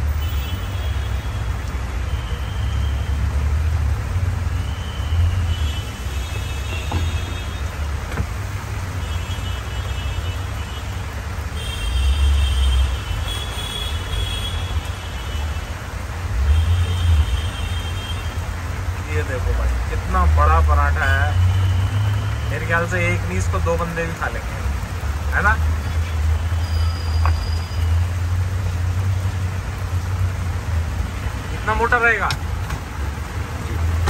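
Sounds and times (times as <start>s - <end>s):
street traffic rumble: 0.0s - 34.0s.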